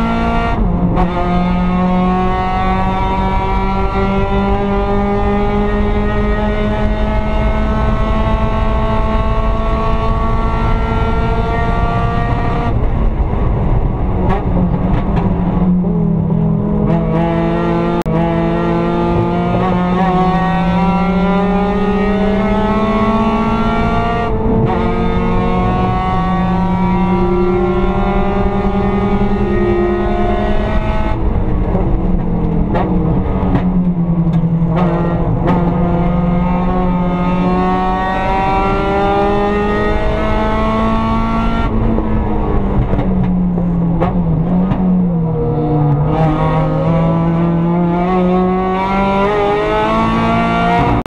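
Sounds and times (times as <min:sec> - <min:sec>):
race car engine at full throttle: 0:00.0 - 0:51.0.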